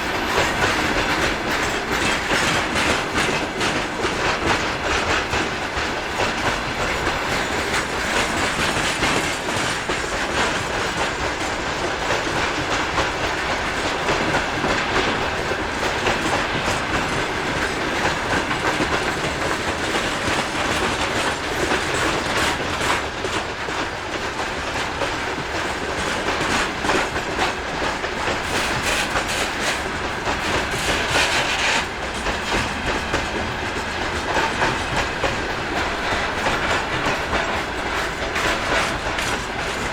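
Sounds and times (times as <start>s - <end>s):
train wheels clattering over rails: 0.0s - 39.9s.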